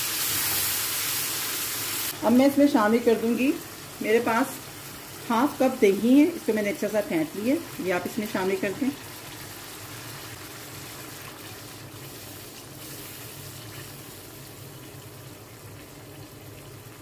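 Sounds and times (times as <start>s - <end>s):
gravy simmering and sizzling: 0.0s - 17.0s.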